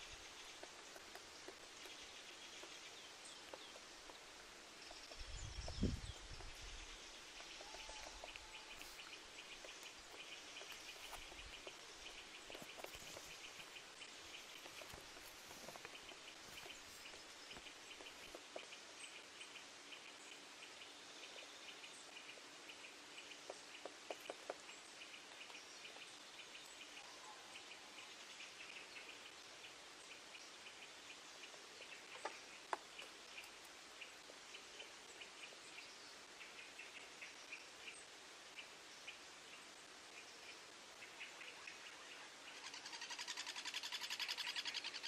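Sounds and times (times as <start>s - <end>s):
birds calling faintly: 0.0s - 45.0s.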